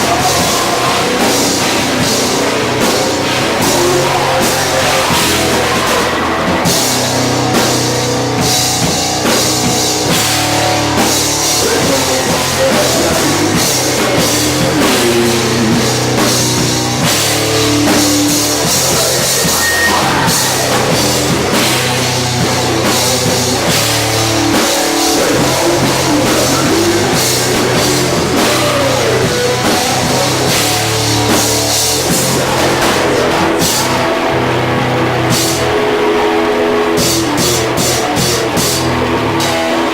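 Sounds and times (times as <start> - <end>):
drum kit pounding: 0.0 - 39.9
live heavy rock band: 0.0 - 39.9.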